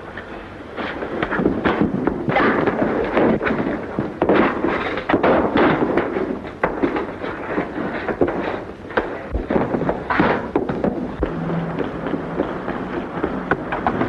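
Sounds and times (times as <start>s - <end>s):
steady crackling din: 0.0s - 14.0s.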